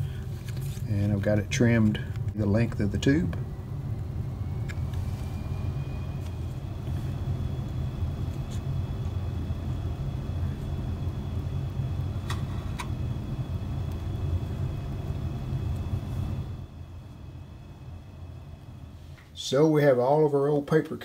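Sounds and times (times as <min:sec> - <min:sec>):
faint high whine: 0:00.0 - 0:21.0
low mechanical hum: 0:00.0 - 0:21.0.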